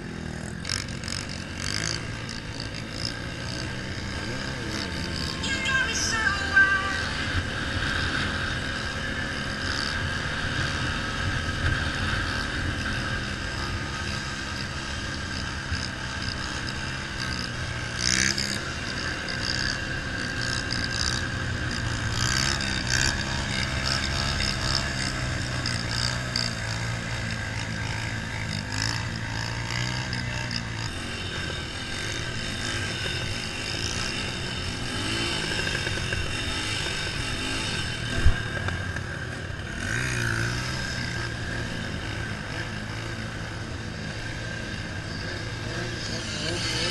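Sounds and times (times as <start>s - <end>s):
mini bike engines running: 0.0s - 46.9s.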